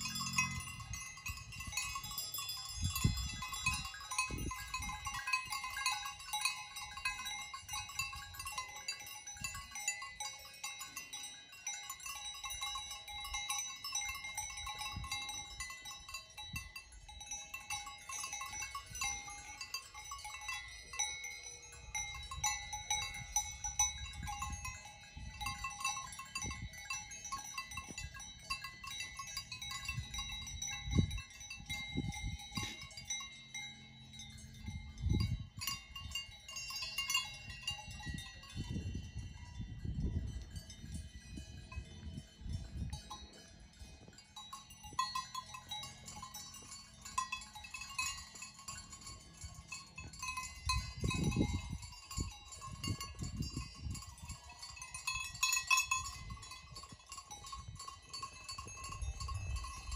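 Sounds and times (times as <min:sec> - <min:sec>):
livestock bells clanking: 0:00.0 - 0:59.9.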